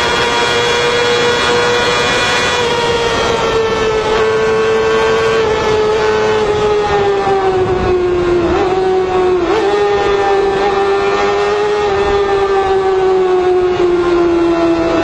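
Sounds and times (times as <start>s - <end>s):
motorcycle engine high revs: 0.0s - 15.0s.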